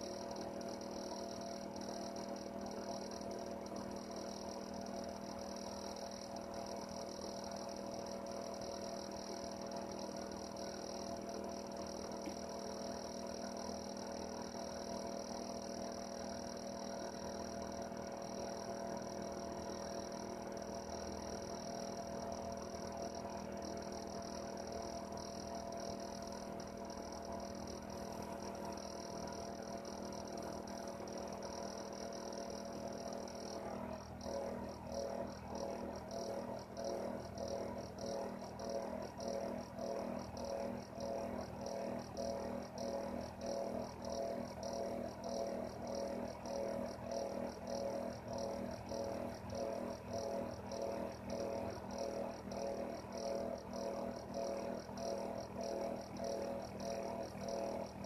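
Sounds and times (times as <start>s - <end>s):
heater humming and hissing: 0.0s - 58.0s.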